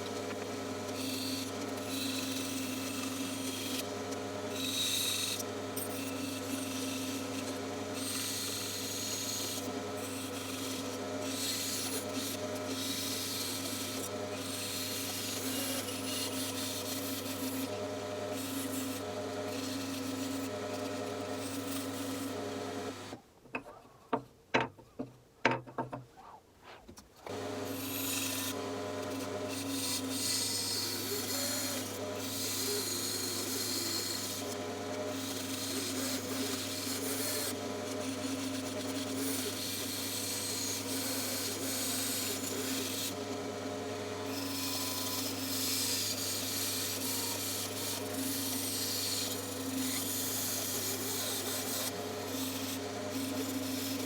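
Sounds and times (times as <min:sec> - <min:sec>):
bandsaw cutting wood: 0:00.0 - 0:23.2, 0:27.3 - 0:54.0.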